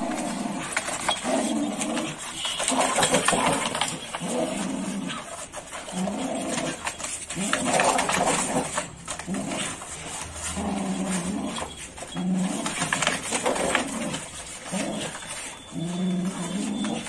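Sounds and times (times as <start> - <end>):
dogs growling: 0.0 - 17.0.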